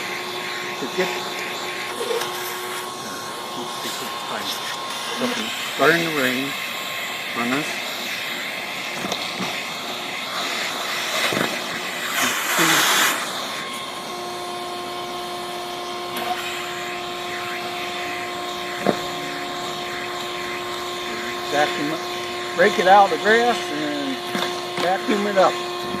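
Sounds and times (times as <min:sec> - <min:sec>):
steady hum tone: 0:00.0 - 0:26.0
vacuum cleaner sucking over grass: 0:00.0 - 0:26.0.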